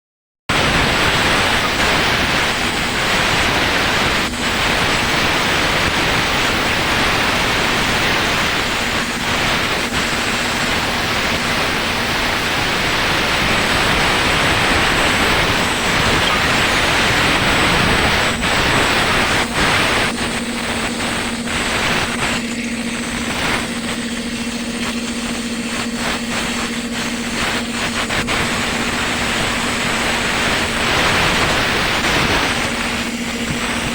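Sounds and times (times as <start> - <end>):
steady hum: 0.5 - 33.9
grader engine rushing noise: 0.6 - 33.9.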